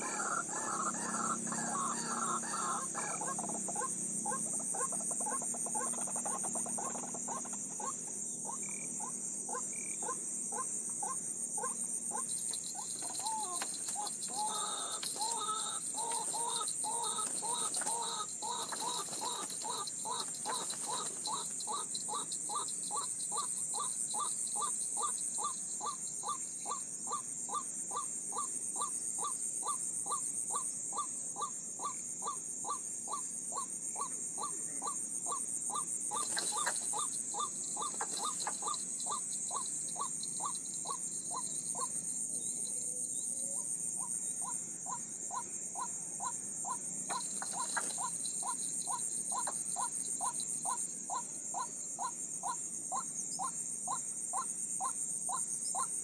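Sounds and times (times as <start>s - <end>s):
high buzz of insects: 0.0s - 56.0s.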